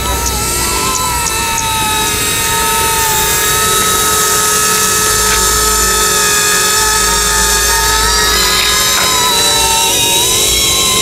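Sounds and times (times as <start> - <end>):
toy helicopter whining: 0.0 - 11.0.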